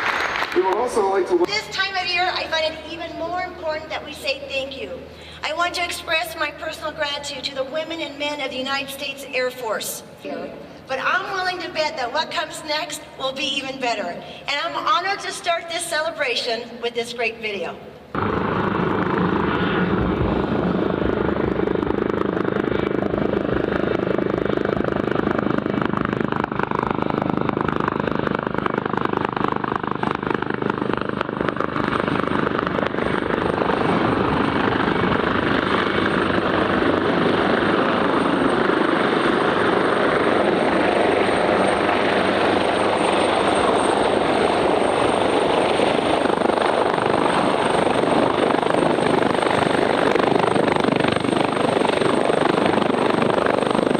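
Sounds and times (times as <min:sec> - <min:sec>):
helicopter turbine and rotor noise: 0:00.0 - 0:53.9.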